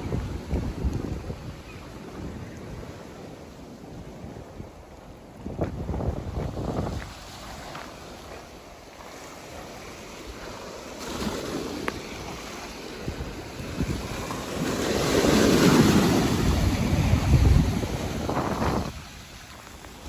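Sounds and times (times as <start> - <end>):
wind buffeting microphone: 0.0 - 8.7, 9.4 - 20.0
waves breaking on beach: 0.0 - 20.0.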